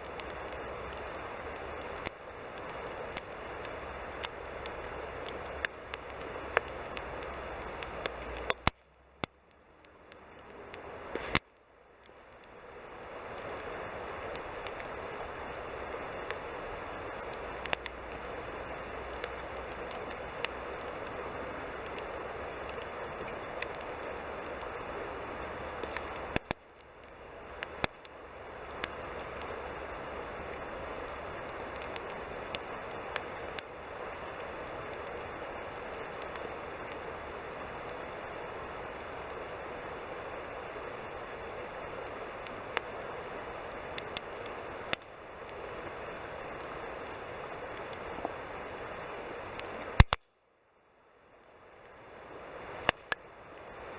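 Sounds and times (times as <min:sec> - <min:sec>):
campfire hissing: 0:00.0 - 0:50.2, 0:50.8 - 0:53.9
burning wood crackling and popping: 0:00.0 - 0:50.3, 0:51.2 - 0:53.9.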